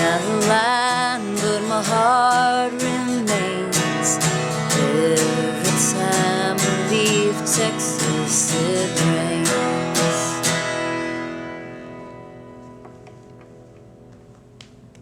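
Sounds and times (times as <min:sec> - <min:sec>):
acoustic guitar strumming: 0:00.0 - 0:14.6.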